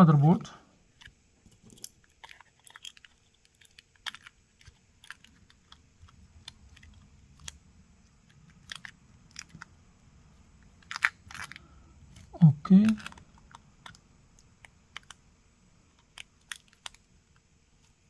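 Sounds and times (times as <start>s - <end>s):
small parts clicking and tapping: 0.9s - 18.0s.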